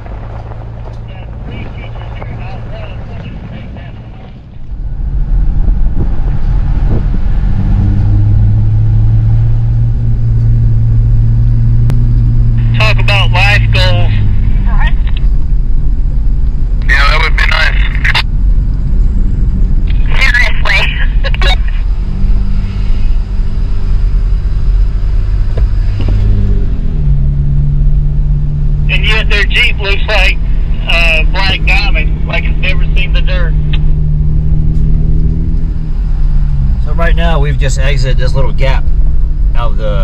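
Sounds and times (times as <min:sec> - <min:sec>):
off-road vehicle engine drone: 0:00.0 - 0:40.0.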